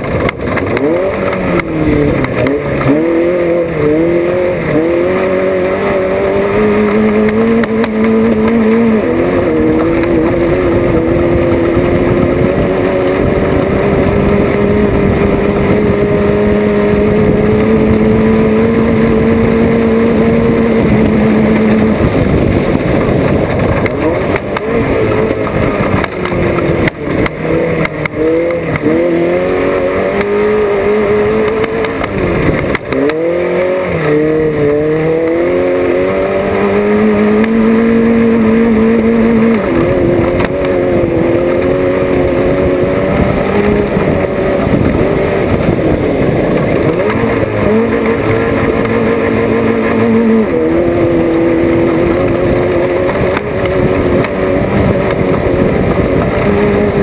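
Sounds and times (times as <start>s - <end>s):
race vehicle engine revving: 0.0s - 57.0s.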